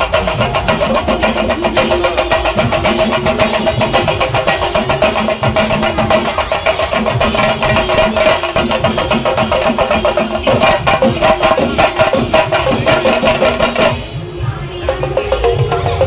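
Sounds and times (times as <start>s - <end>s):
chenda drums playing fast rhythm: 0.0s - 16.0s.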